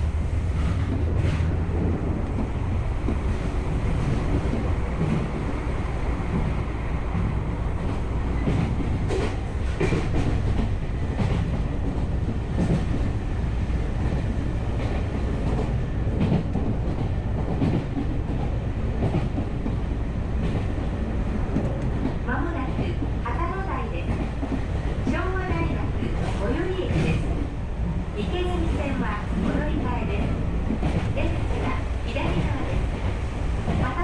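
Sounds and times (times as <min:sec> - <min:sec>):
rail joint clicks: 0:00.0 - 0:34.0
train wheels rumbling on track: 0:00.0 - 0:34.0.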